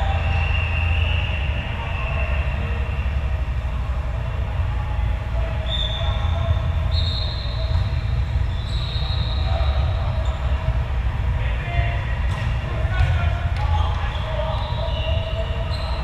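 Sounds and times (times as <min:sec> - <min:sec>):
low rumble in large hall: 0:00.0 - 0:16.0.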